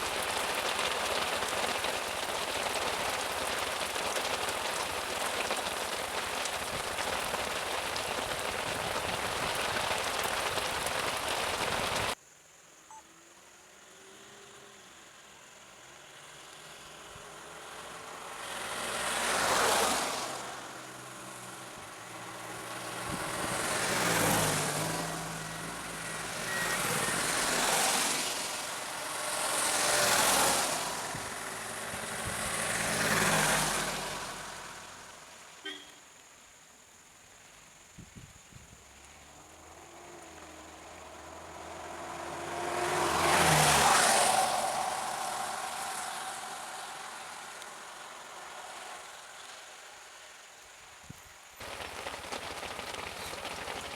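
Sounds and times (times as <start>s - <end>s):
heavy rain pouring: 0.0s - 12.2s, 17.7s - 35.6s, 39.0s - 50.6s, 51.6s - 53.9s
vehicles passing on wet road: 0.0s - 12.2s, 13.8s - 36.4s, 38.7s - 53.9s.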